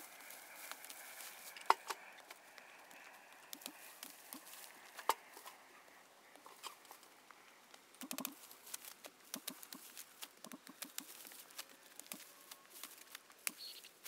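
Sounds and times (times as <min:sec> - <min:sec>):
stalks snapping and crunching: 0:00.0 - 0:05.6, 0:06.4 - 0:14.0
leaves rustling: 0:00.0 - 0:14.0.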